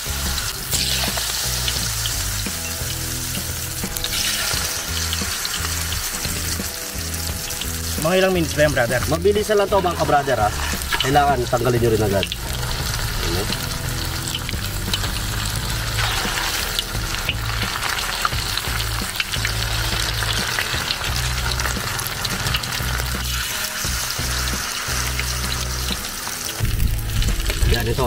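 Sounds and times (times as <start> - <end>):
battered leaves deep-frying: 0.0 - 28.0.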